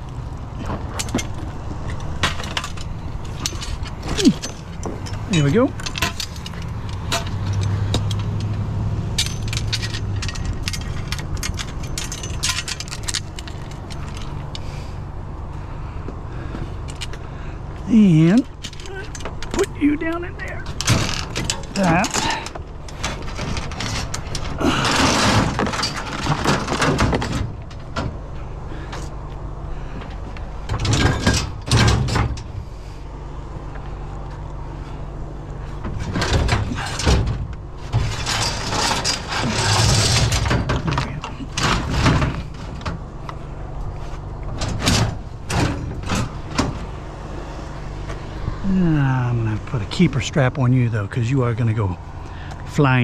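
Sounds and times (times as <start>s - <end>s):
low engine hum: 0.0s - 53.0s
scrap metal clanking and scraping: 0.5s - 15.0s, 18.5s - 29.2s, 29.8s - 33.0s, 34.3s - 48.6s.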